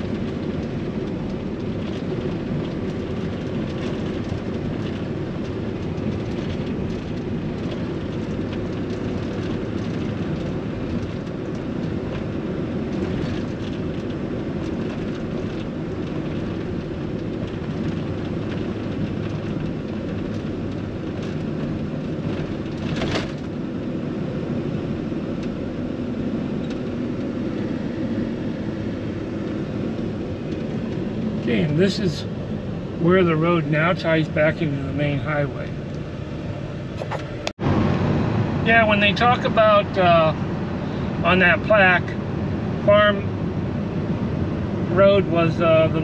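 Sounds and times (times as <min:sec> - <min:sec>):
vehicle road and engine noise: 0:00.0 - 0:46.0.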